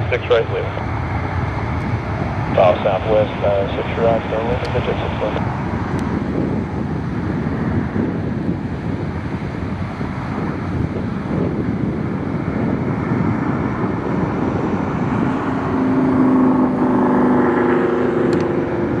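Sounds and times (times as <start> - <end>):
jet engines roaring: 0.0 - 19.0
whining engine tones: 0.0 - 19.0.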